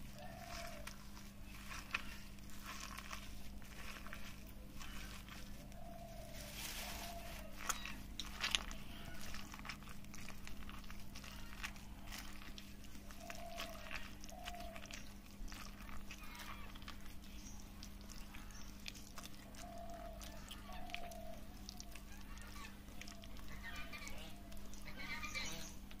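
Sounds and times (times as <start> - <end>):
crunching and clicking: 0.0 - 26.0.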